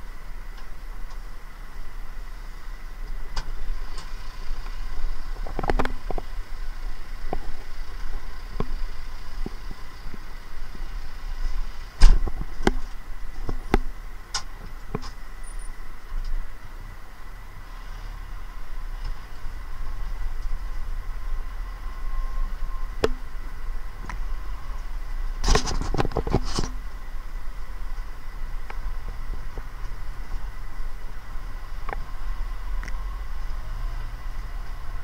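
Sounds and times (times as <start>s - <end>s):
diesel engine low rumble: 0.0s - 35.0s.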